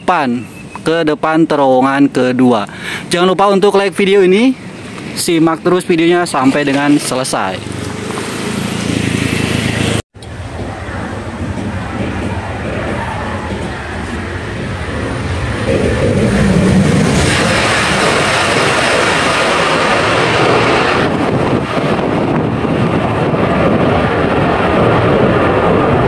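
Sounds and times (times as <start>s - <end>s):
wind buffeting rumble: 0.0s - 26.0s
high-speed train passing: 2.3s - 26.0s.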